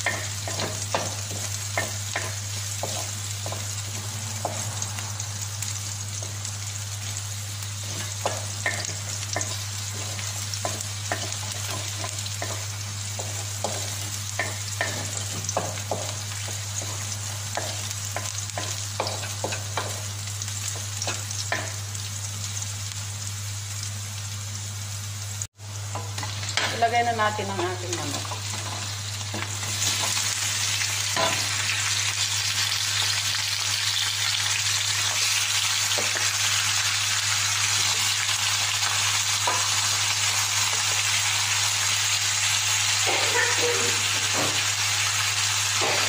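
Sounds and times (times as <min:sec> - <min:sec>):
onion sizzling in hot oil: 0:00.0 - 0:46.0.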